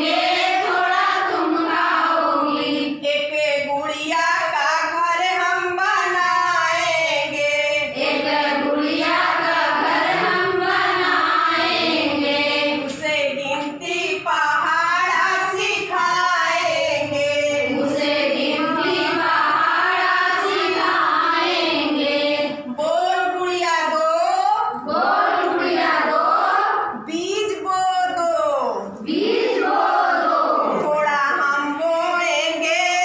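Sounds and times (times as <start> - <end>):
women singing together: 0.0 - 27.1, 28.6 - 33.0.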